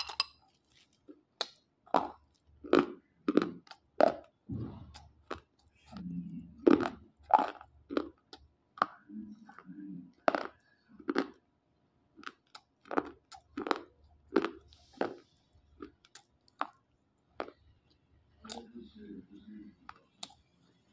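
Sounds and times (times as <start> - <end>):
slate pencils being chewed: 0.0 - 4.3, 5.0 - 11.4, 12.2 - 16.8, 17.4 - 20.6.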